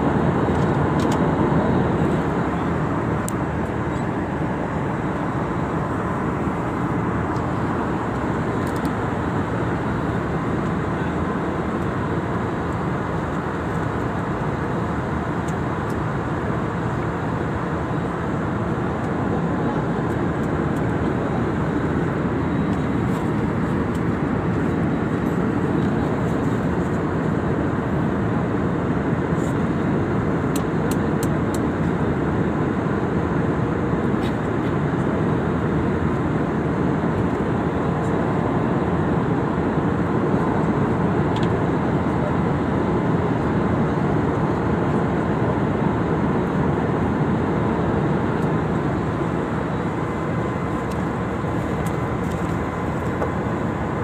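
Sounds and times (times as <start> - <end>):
airliner cabin roar: 0.0 - 54.0.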